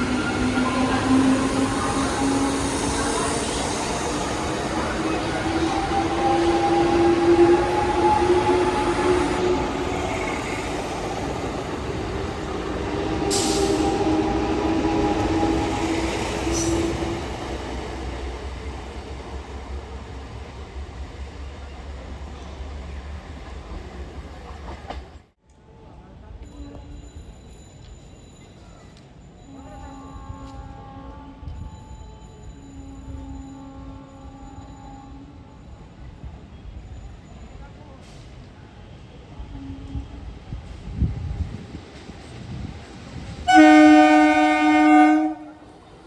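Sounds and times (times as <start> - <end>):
train rumbling on rails: 0.0 - 25.4, 26.1 - 46.0.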